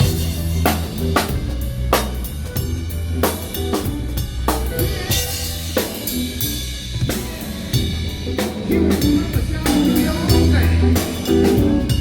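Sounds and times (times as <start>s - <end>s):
drum kit beat: 0.0s - 12.0s
low bass line: 0.0s - 12.0s.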